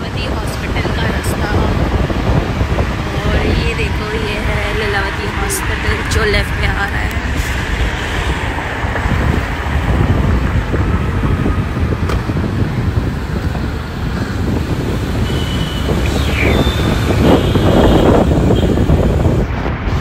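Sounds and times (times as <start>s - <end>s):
road traffic: 0.0s - 20.0s
wind buffeting microphone: 0.0s - 20.0s.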